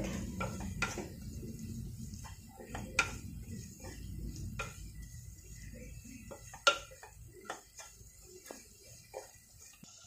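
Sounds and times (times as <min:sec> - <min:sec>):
food frying in oil: 0:00.0 - 0:10.0
spatula scraping and knocking pot: 0:00.0 - 0:10.0.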